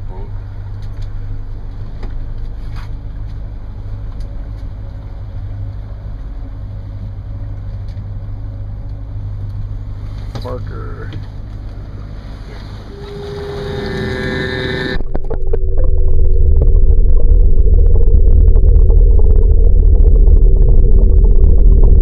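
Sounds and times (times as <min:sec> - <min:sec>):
boat engine rumbling: 0:00.0 - 0:22.0.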